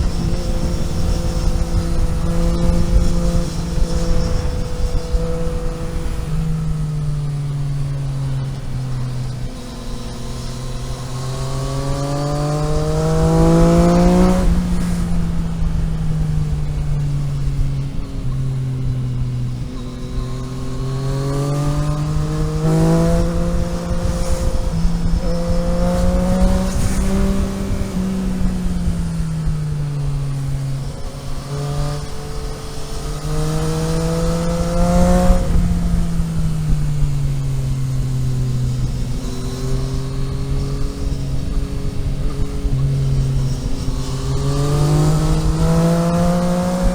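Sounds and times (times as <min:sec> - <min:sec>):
car engine shifting gears: 0:00.0 - 0:46.9.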